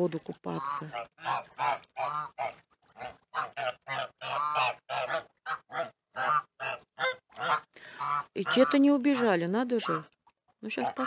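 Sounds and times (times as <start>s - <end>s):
geese honking: 0.5s - 9.2s, 9.8s - 10.0s.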